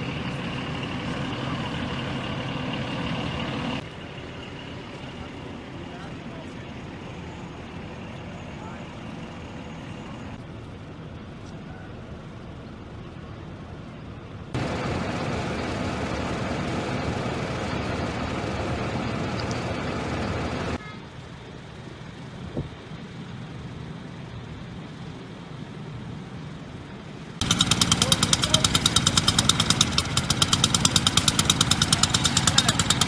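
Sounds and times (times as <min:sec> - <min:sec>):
highway traffic: 0:00.0 - 0:33.0.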